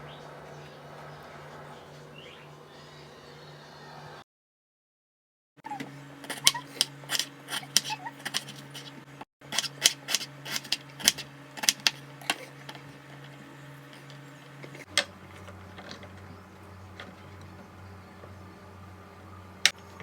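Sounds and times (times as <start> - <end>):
steady low hum: 0.0 - 4.2, 5.7 - 20.0.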